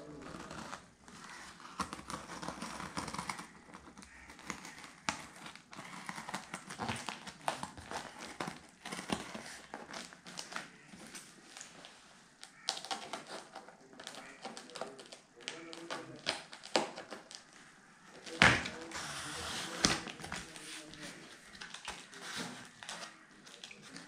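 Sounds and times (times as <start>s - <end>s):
cardboard rustling and scraping: 0.0s - 17.5s, 18.1s - 24.0s.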